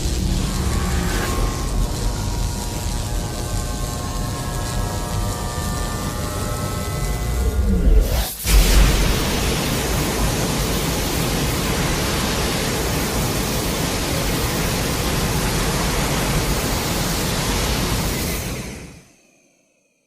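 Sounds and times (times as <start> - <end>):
steady rushing noise: 0.0 - 6.0, 7.2 - 18.9.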